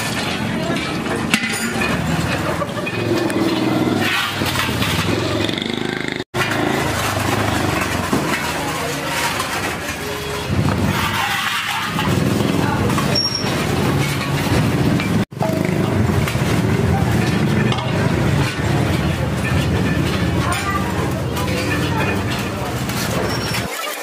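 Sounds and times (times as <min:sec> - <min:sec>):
motor traffic: 0:00.0 - 0:23.6
indistinct voices: 0:00.0 - 0:23.7.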